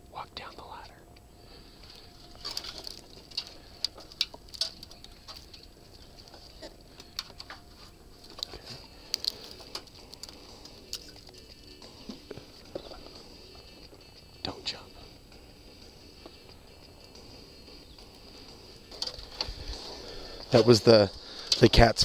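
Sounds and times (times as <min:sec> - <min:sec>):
twigs and bark cracking: 0:00.7 - 0:22.0.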